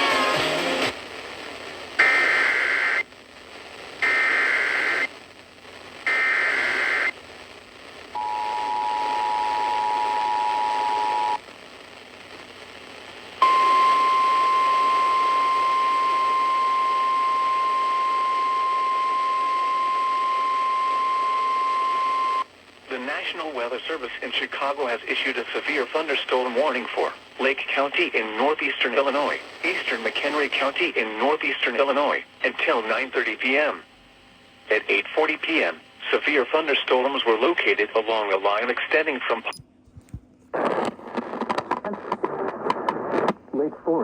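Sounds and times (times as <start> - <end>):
radio hiss: 0.4 - 39.6, 40.5 - 44.0.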